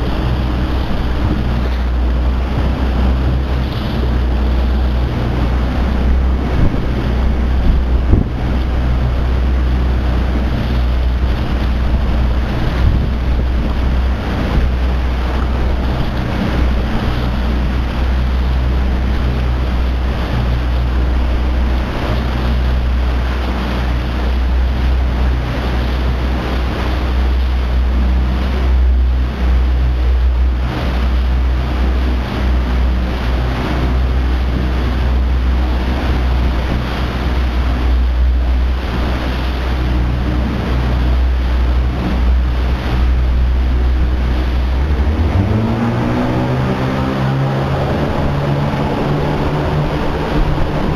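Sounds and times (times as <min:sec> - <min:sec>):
outboard motor running: 0:00.0 - 0:50.9
water sloshing around hull: 0:00.0 - 0:50.9
wind noise on microphone: 0:00.0 - 0:50.9.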